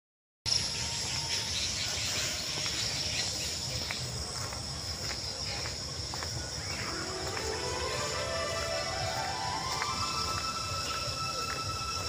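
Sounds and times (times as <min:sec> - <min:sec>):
insects droning: 0:00.5 - 0:12.0.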